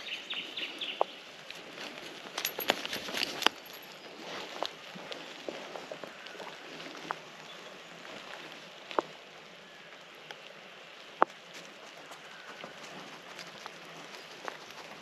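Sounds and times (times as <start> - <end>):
footsteps crunching on dry litter: 0.0 - 9.2, 11.2 - 15.0.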